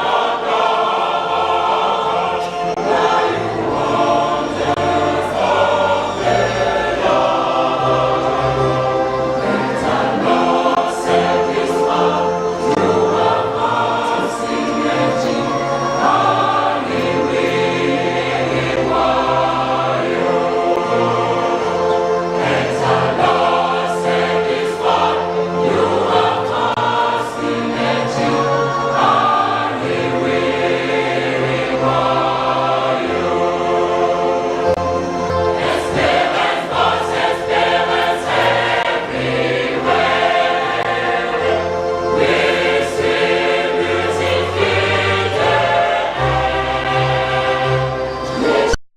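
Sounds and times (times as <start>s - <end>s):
choir singing a hymn: 0.0s - 48.8s.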